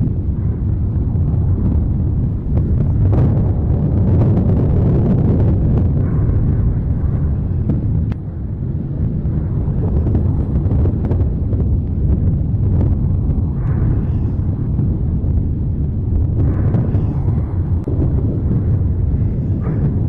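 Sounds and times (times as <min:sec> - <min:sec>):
volcano deep rumble: 0:00.0 - 0:20.0.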